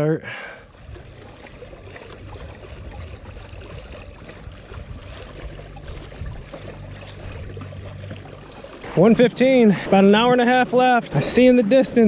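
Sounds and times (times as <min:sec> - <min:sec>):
water splashing along kayak hull: 0:00.0 - 0:12.0
low steady hum: 0:00.1 - 0:12.0.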